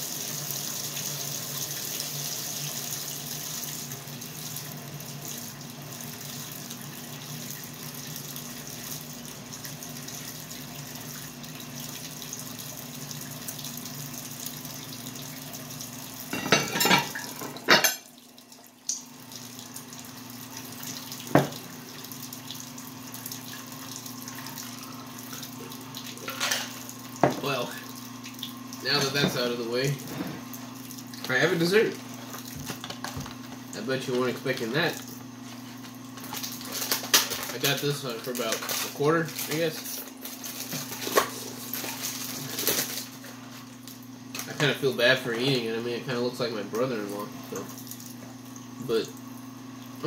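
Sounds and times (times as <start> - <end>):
dishwasher running: 0.0 - 50.0.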